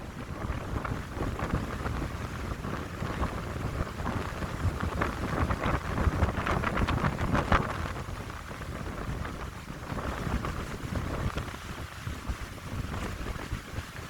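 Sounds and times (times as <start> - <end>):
wind buffeting microphone: 0.0 - 14.0
wind rustling through pines: 0.0 - 14.0.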